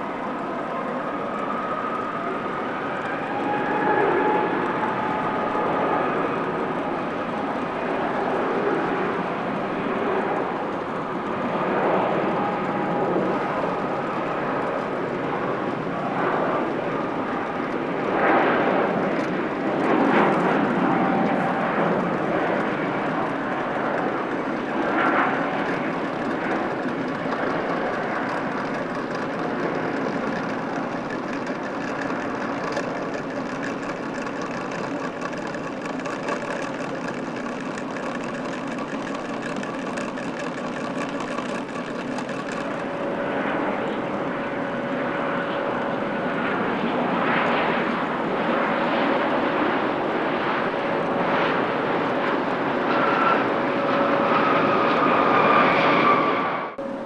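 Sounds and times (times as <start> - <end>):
jet engines on takeoff: 0.0 - 57.0
turbofan whine: 0.0 - 57.0.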